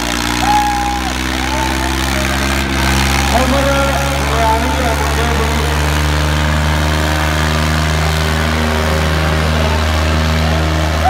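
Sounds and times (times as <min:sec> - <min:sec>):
tractor diesel engines under load: 0:00.0 - 0:11.0.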